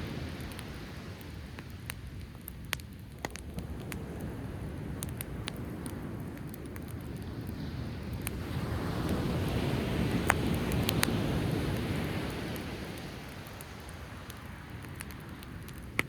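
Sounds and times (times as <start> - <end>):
campfire crackling and popping: 0.0 - 16.0
wind: 0.0 - 16.0.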